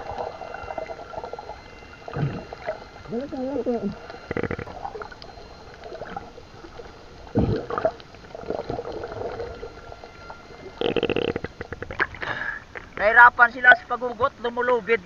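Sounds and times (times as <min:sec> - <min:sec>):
muffled underwater gurgling: 0:00.0 - 0:14.9.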